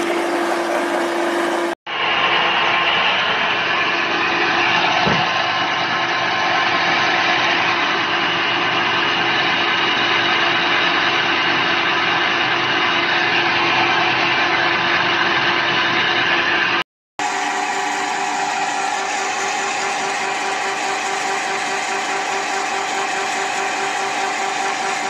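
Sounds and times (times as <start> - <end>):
pellet mill humming: 0.0 - 25.0.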